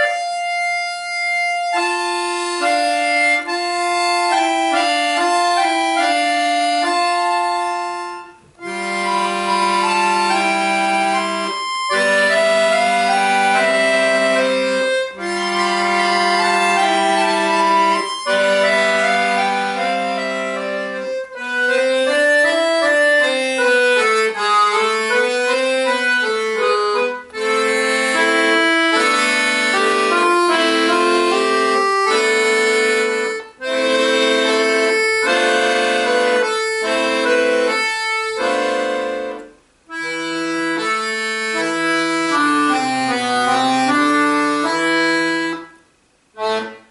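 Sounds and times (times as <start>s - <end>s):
accordion playing: 0.0s - 46.9s.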